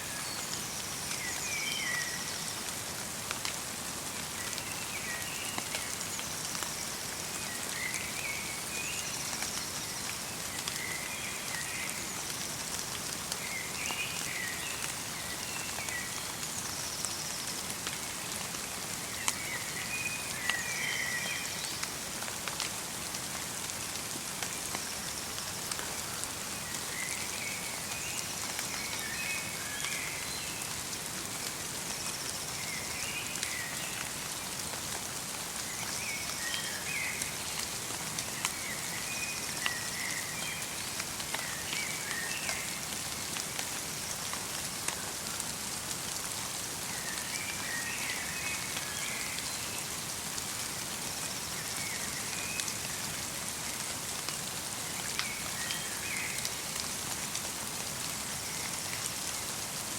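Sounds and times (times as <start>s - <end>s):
light rain patter and drips: 0.0s - 59.9s.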